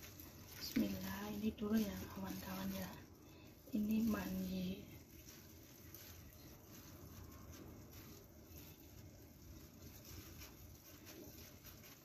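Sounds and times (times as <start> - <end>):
gloved hands rustling: 0.0 - 12.0.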